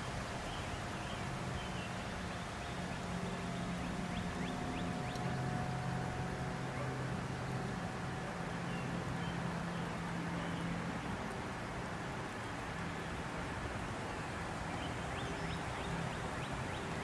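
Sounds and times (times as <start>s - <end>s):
convertible top motor humming: 0.0s - 17.0s.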